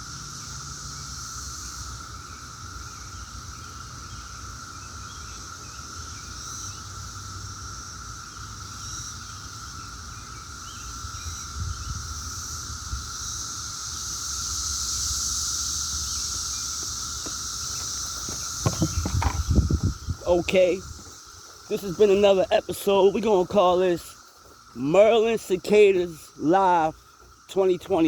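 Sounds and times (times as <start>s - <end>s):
cicada chorus drone: 0.0s - 28.0s.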